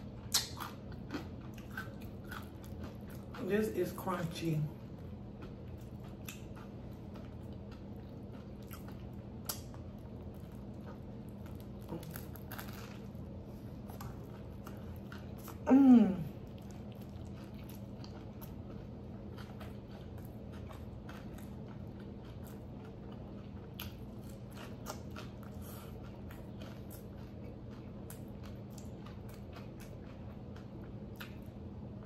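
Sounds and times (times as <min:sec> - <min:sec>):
chewing crunchy fried food: 0:00.0 - 0:32.0
steady low hum: 0:00.0 - 0:32.0.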